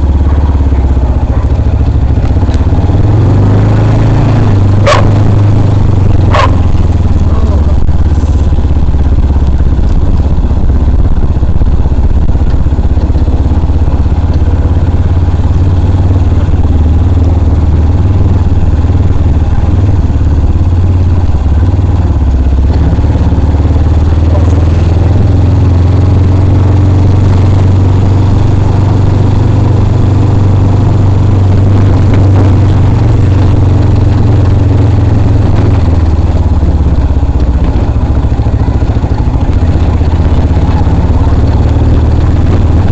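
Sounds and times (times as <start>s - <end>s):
motorcycle engine rumble: 0.0s - 42.9s.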